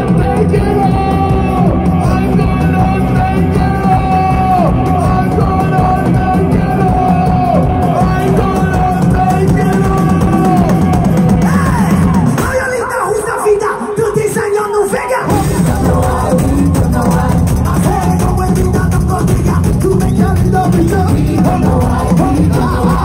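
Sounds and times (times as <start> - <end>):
live band playing amplified music: 0.0 - 23.0.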